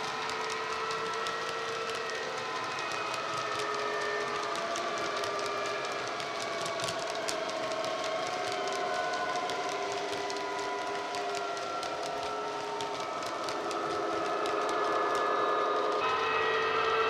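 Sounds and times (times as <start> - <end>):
model wagon wheels clicking: 0.0 - 17.0.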